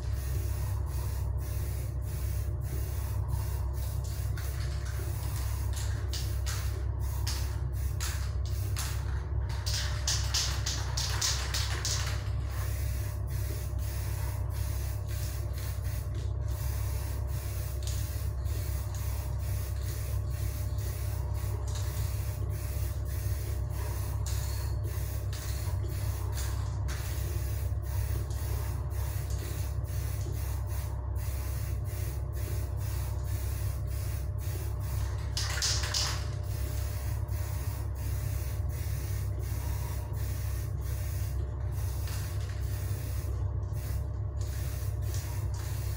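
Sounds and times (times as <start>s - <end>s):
spray paint can hissing: 0.0s - 45.9s
steady low hum: 0.0s - 45.9s.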